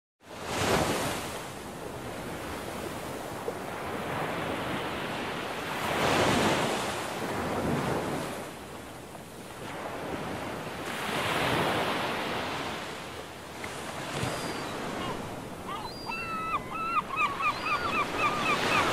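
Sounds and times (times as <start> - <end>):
wind: 0.2 - 18.9
sea waves washing ashore: 0.3 - 18.9.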